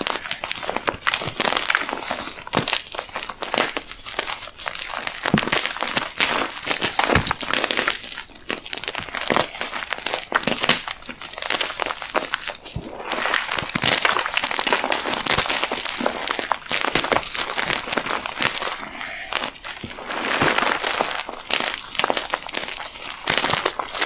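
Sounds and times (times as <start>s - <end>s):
chalk being crushed: 0.0s - 24.0s.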